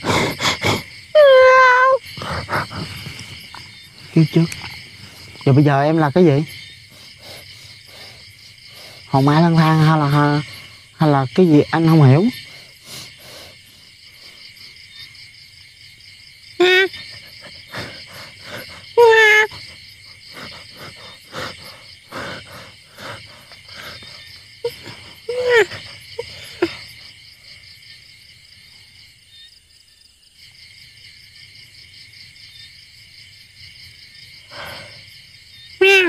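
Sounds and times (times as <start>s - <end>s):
crickets and insects chirring: 0.0s - 36.0s.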